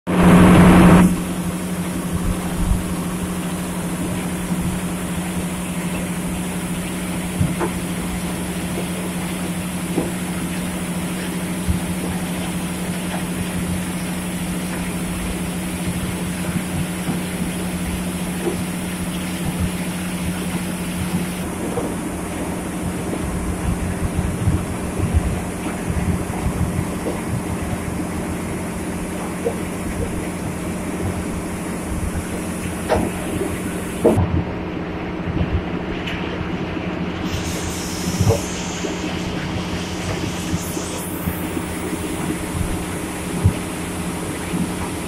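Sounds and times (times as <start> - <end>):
heavy diesel machinery running: 0.1 - 45.0.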